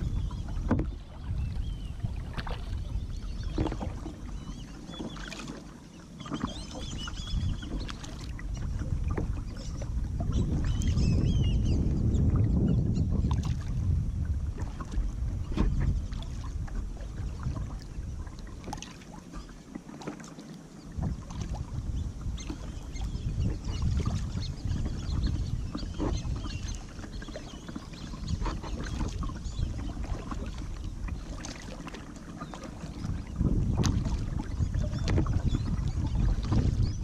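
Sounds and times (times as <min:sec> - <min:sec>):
paddle splashing and dripping: 0:00.0 - 0:37.0.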